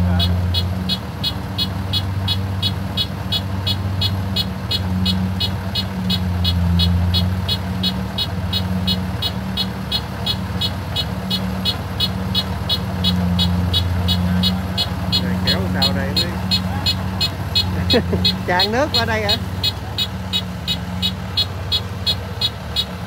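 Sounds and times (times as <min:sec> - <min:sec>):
diesel engine humming: 0:00.0 - 0:23.0
high regular ticking: 0:00.0 - 0:23.0.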